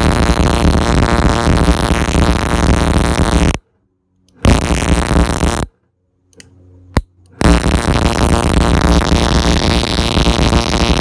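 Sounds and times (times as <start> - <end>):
harsh buzz of test rig: 0.0 - 3.6, 4.3 - 5.8, 6.9 - 11.0.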